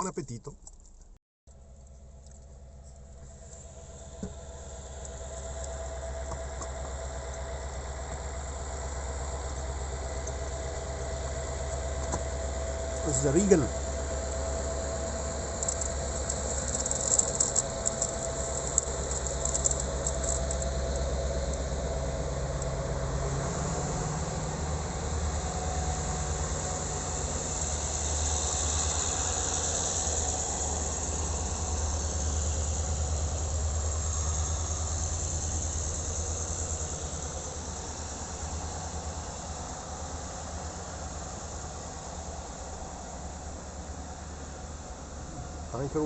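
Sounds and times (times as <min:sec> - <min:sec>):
diesel locomotive engine drone: 0:01.5 - 0:46.0.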